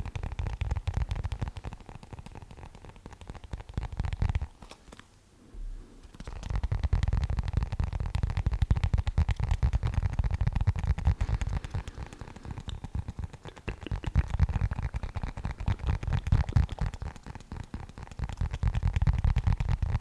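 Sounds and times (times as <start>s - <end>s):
object rubbed and scratched crackling: 0.0s - 20.0s.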